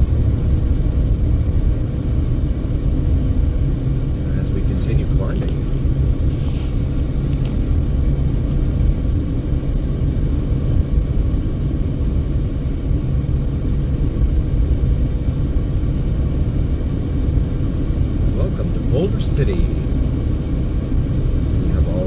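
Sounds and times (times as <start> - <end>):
car driving at highway speed: 0.0 - 22.0
faint steady hum: 0.0 - 22.0.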